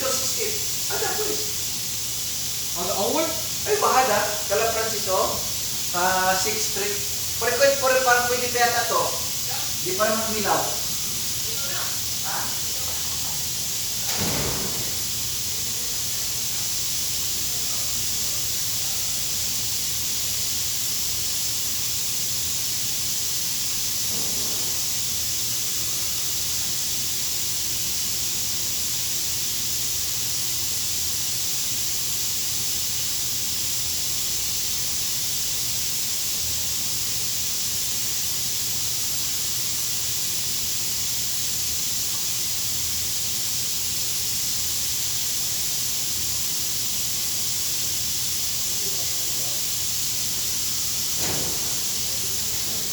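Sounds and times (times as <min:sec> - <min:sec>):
steady high-pitched hiss: 0:00.0 - 0:52.9.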